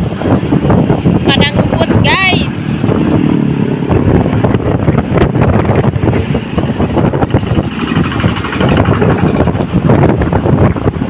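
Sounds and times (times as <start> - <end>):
wind buffeting microphone: 0.0 - 11.0
motorcycle engine running: 0.1 - 11.0.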